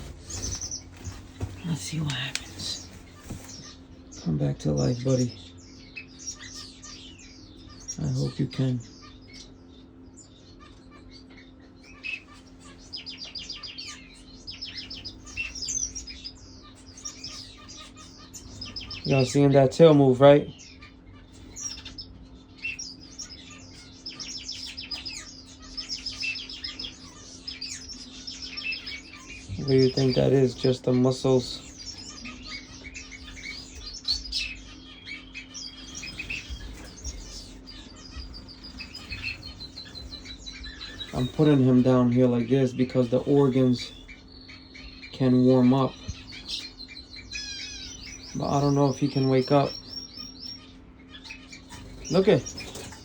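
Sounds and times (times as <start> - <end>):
finches chirping: 0.0 - 53.0
steady low hum: 0.0 - 53.0.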